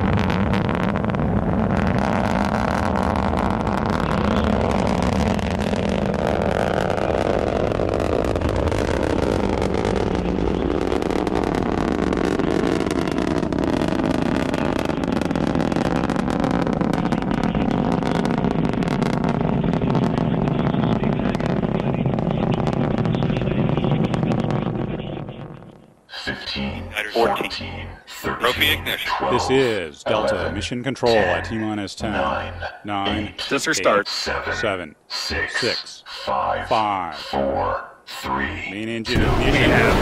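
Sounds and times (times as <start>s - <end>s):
rocket engine rumble with crackling: 0.0s - 40.0s.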